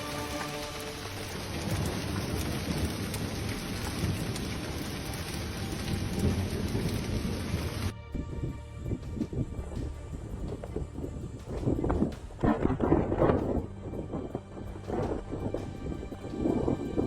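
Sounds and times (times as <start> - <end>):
heavy rain hiss: 0.0 - 17.0
low rumbling: 0.0 - 17.0.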